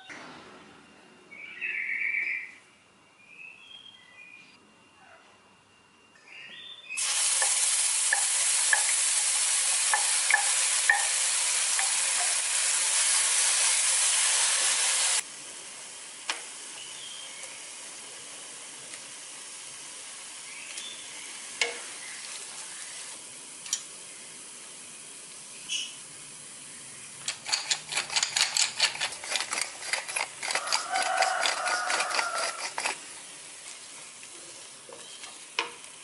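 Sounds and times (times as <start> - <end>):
spice paste sizzling in oil: 7.0 - 36.0.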